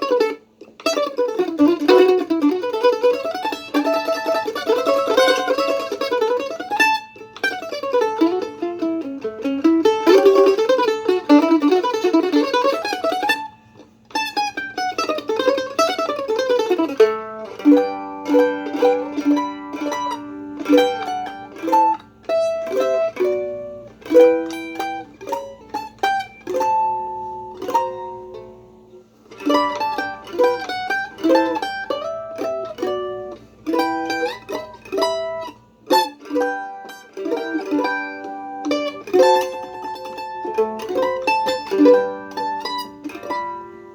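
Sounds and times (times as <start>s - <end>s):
mandolin playing: 0.0s - 43.9s.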